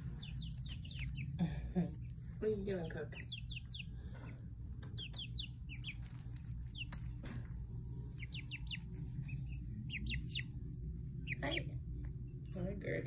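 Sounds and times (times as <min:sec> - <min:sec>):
chicks peeping: 0:00.0 - 0:13.0
chicks scratching in shavings: 0:00.0 - 0:13.0
steady low hum: 0:00.0 - 0:13.0.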